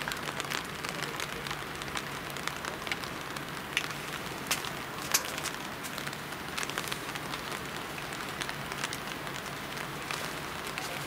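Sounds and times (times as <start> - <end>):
rain falling: 0.0 - 11.0
raindrops ticking near microphone: 0.0 - 11.0.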